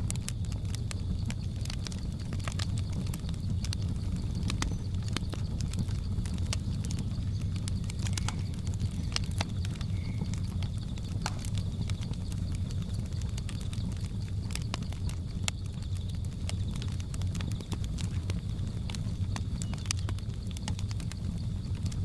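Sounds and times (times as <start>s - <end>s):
wood fire crackling: 0.0s - 22.0s
jungle insects droning: 0.1s - 22.0s.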